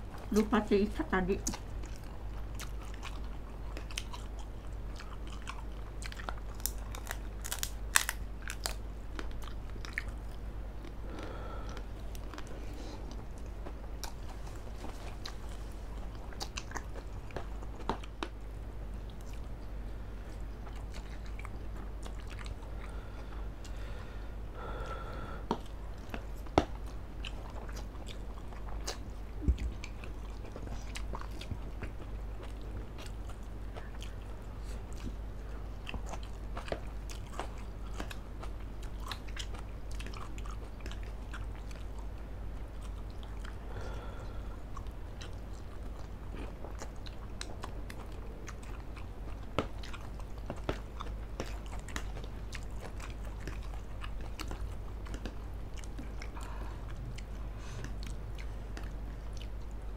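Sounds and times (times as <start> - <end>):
low steady hum: 0.0 - 59.9
people chewing food: 0.0 - 59.9.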